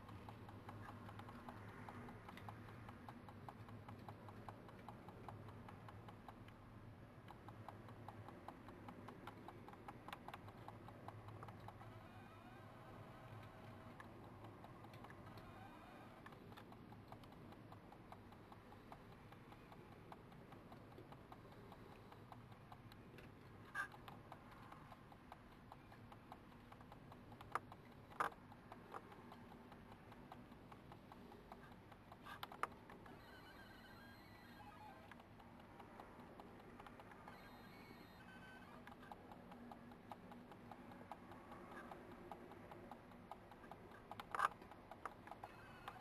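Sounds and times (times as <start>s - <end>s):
faint clicks and taps: 0.0s - 46.0s
sharp clicks: 0.0s - 46.0s.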